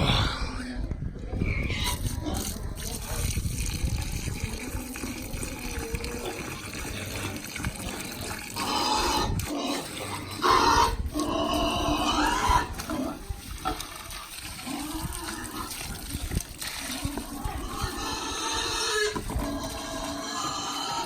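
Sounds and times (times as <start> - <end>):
pigs calling: 0.0 - 21.0.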